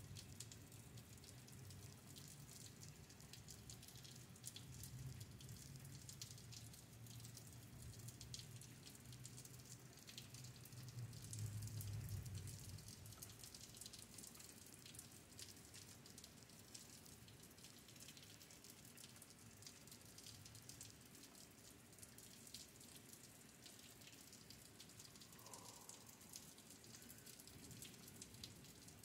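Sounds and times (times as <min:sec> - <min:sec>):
drops ticking and dripping: 0:00.0 - 0:29.0
faint rain falling: 0:00.0 - 0:29.0.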